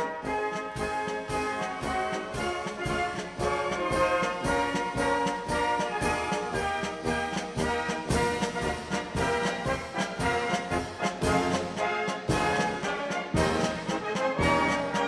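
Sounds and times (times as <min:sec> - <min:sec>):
music with brass and beat: 0:00.0 - 0:15.0.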